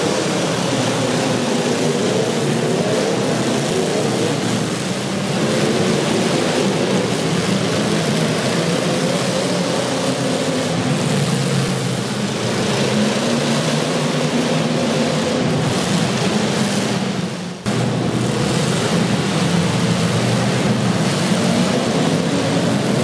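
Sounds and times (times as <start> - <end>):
car engines revving: 0.0 - 23.0
constant haze of noise: 0.0 - 23.0.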